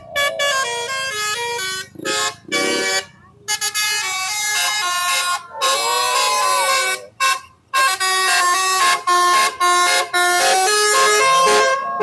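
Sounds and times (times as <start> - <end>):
multi-tone bus horn melody: 0.0 - 12.0.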